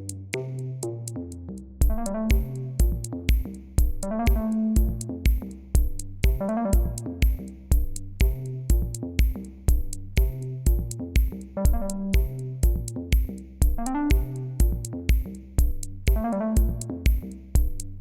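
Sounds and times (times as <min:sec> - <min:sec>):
electronic music with drum machine: 0:01.8 - 0:18.0.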